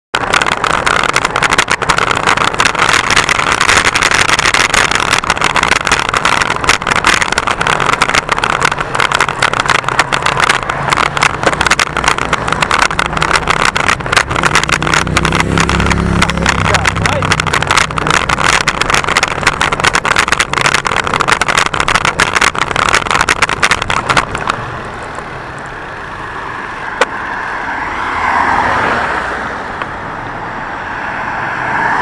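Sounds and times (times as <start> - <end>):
traffic engine hum: 0.1 - 32.0
tyre noise: 0.2 - 32.0.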